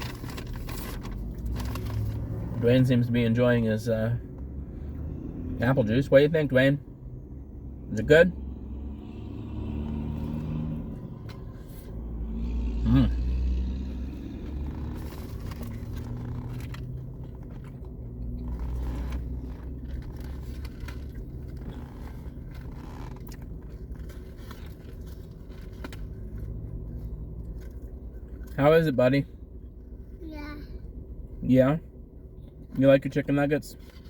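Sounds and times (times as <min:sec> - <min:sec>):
low car cabin rumble: 0:00.0 - 0:34.0.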